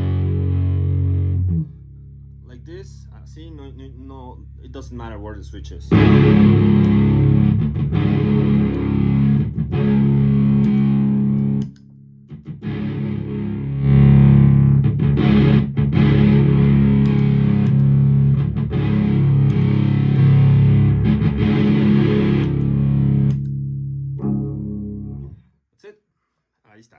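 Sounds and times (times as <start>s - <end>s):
distorted fuzz guitar chords: 0.0s - 2.0s, 5.7s - 25.4s.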